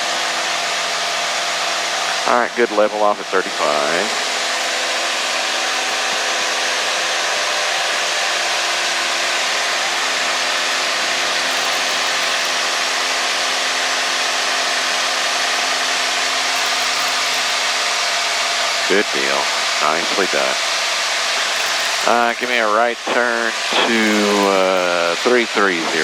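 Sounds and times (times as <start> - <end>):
propeller plane engine droning: 0.0 - 26.0.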